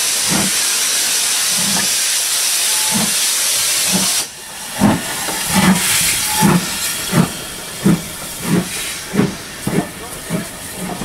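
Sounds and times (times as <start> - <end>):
steady hiss of steam: 0.0 - 11.0
steam locomotive exhaust chuffing: 0.0 - 11.0.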